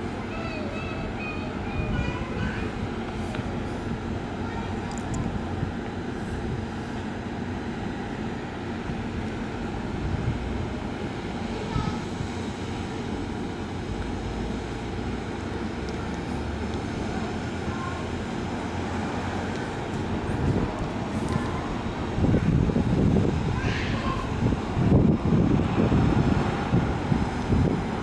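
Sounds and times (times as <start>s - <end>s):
parked railcar low drone: 0.0s - 28.0s.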